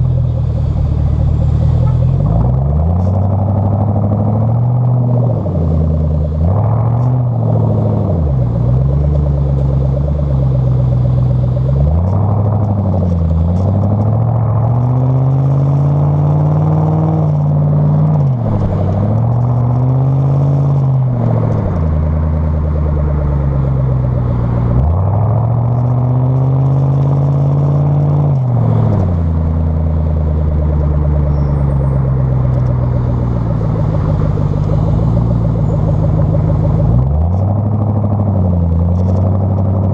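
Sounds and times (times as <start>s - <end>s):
car engine exhaust revving: 0.0s - 39.9s.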